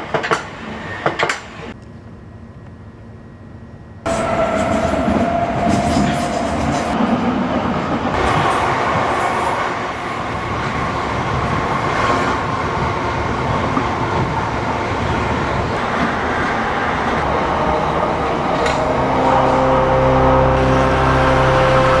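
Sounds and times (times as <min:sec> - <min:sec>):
train rumbling along track: 0:04.0 - 0:22.0.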